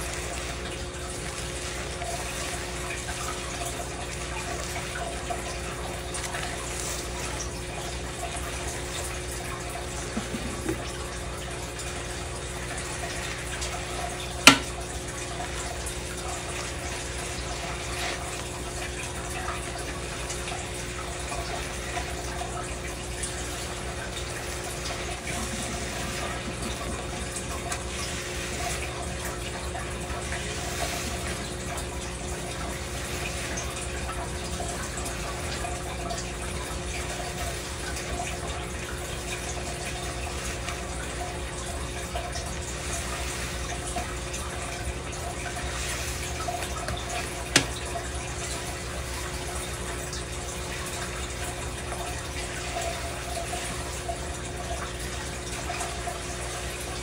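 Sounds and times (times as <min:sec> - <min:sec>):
tap water running into sink: 0:00.0 - 0:57.0.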